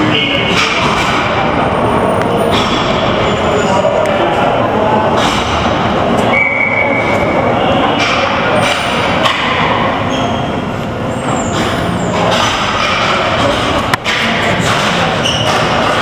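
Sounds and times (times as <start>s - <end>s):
rumbling din of ball hockey game: 0.0s - 16.0s.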